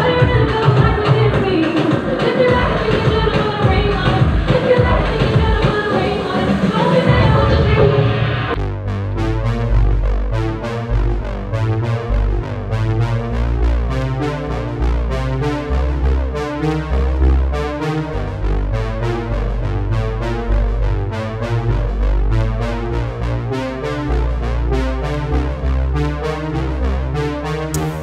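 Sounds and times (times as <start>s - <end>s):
synthesizer dance music: 0.0s - 28.0s.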